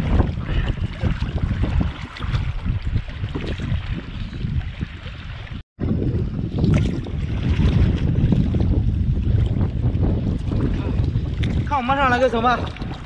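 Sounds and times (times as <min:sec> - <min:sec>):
seawater splashing and sloshing: 0:00.0 - 0:13.0
wind buffeting microphone: 0:00.0 - 0:13.0.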